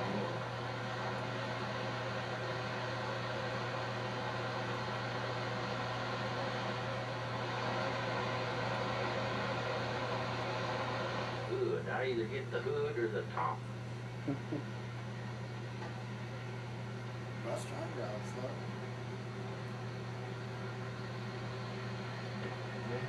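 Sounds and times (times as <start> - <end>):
tape hiss: 0.0 - 23.0.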